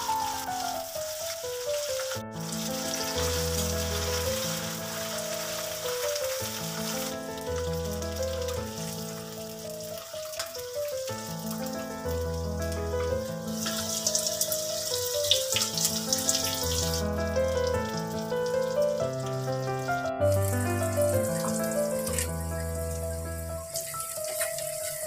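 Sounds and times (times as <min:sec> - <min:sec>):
background music with held notes: 0:00.0 - 0:25.0
onions sizzling in hot oil: 0:00.0 - 0:25.0.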